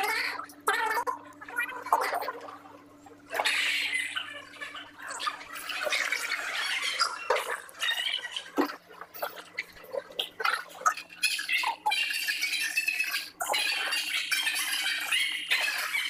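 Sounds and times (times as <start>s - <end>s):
garbled voices on video call: 0.0s - 16.0s.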